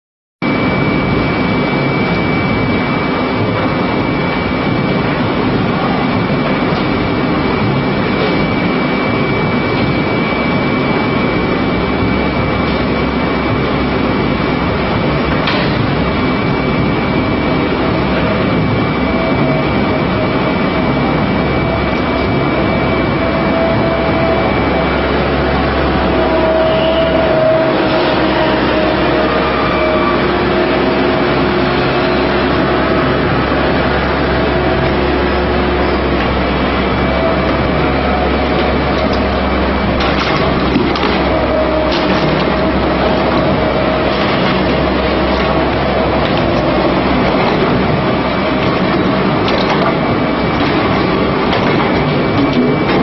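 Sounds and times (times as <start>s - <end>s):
low machinery hum: 0.4s - 53.0s
heavy machinery roaring: 0.5s - 53.0s.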